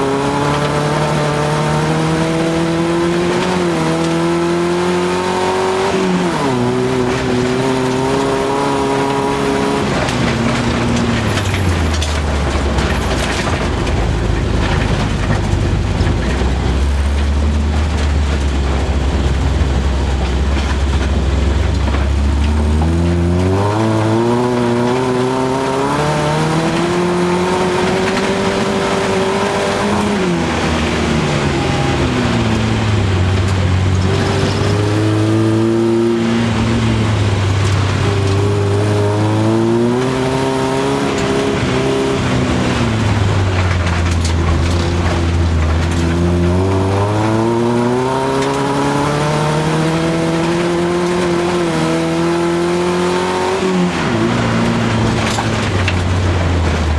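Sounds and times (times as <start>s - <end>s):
car engine revving: 0.0s - 56.9s
road noise: 0.0s - 56.9s.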